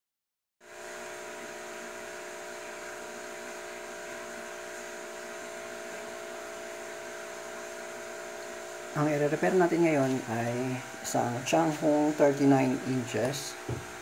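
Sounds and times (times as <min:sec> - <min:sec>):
steady multi-pitch hum: 0:00.7 - 0:14.0.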